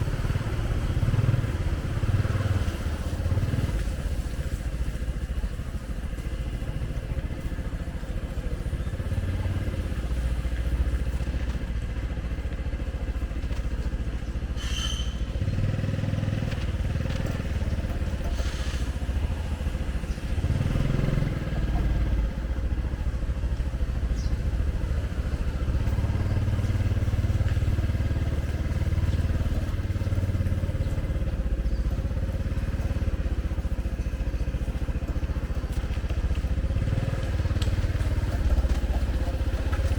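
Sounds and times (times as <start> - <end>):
motor vehicle rumble: 0.0 - 39.9.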